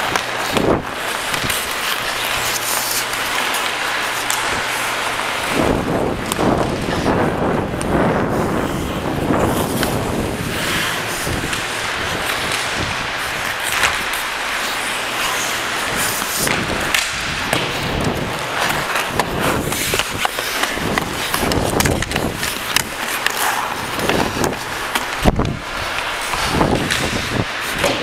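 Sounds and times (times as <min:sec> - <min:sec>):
hockey sticks and puck clacking: 0:00.0 - 0:28.0
skate blades scraping on ice: 0:00.0 - 0:28.0.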